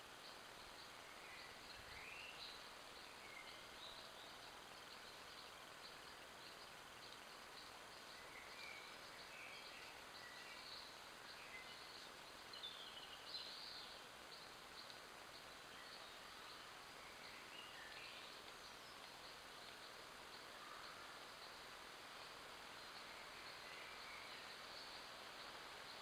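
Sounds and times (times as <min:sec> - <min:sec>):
microphone hiss: 0:00.0 - 0:26.0.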